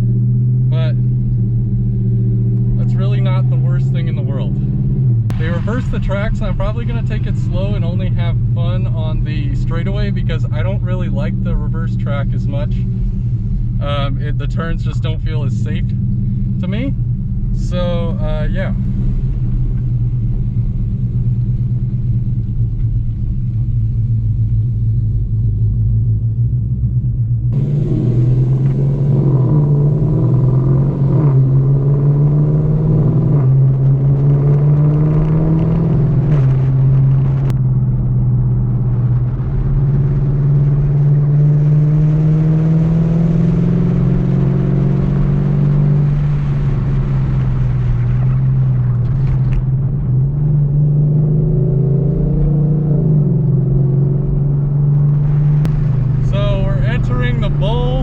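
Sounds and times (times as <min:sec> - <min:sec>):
car engine rumbling and accelerating: 0:00.0 - 0:58.0.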